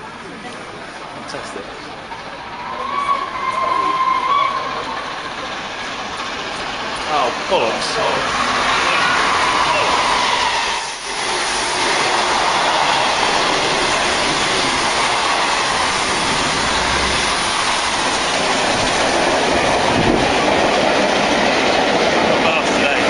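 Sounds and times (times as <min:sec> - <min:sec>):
train rail and wheel noise: 0:00.0 - 0:23.0.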